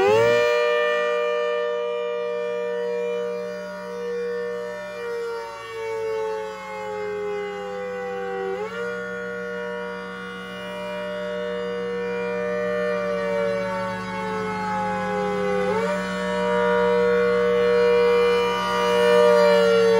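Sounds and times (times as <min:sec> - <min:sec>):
rotating siren chord: 0:00.0 - 0:19.9.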